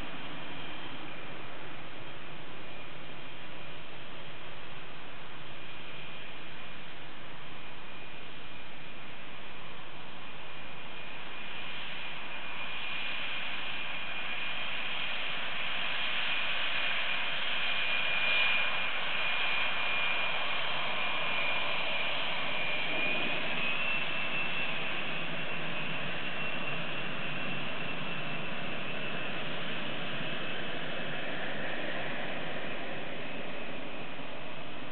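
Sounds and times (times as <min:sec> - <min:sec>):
jet engine whine: 0:00.0 - 0:34.9.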